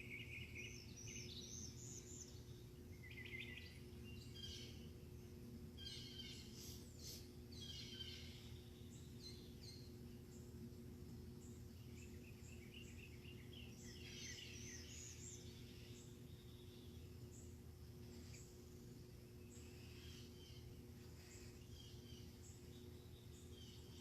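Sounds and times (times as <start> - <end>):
birds chirping and twittering: 0.0 - 24.0
steady low hum: 0.0 - 24.0.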